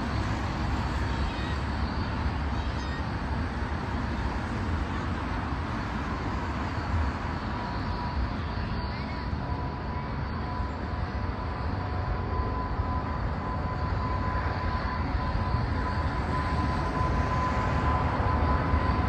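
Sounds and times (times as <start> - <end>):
jet engines rumbling: 0.0 - 19.0
thin engine whine: 0.0 - 19.0.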